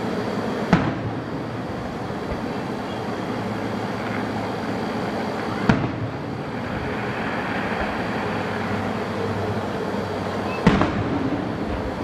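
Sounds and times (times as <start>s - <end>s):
fireworks bursting: 0.0s - 12.0s
steady background din: 0.0s - 12.0s.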